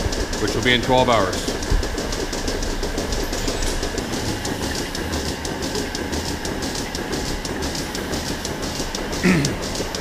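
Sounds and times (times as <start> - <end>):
milking machinery rumble and hum: 0.0 - 10.0
rapid clatter of ticks: 0.0 - 10.0.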